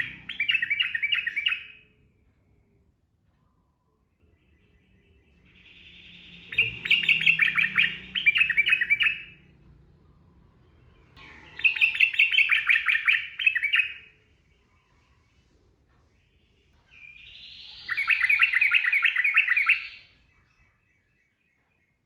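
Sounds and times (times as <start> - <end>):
bird singing chirping phrases: 0.0 - 2.0, 4.2 - 9.5, 10.6 - 15.4, 16.2 - 22.0.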